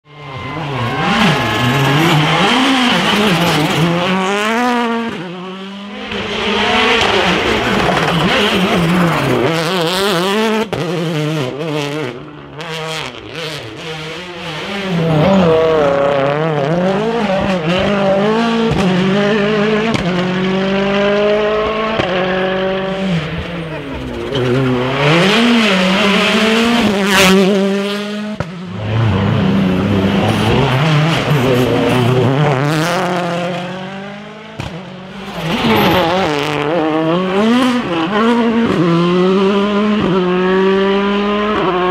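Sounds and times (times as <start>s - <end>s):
rally car engines revving: 0.1s - 41.9s.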